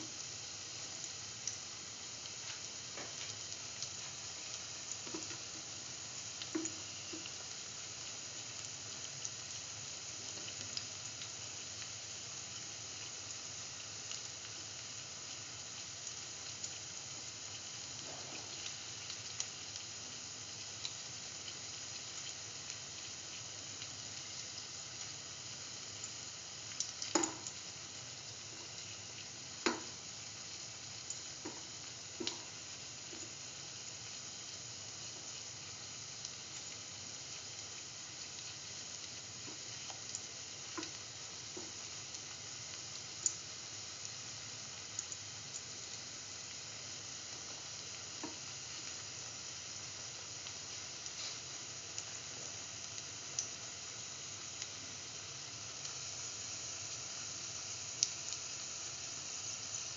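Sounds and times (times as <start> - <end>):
fritters sizzling in oil: 0.0 - 59.9.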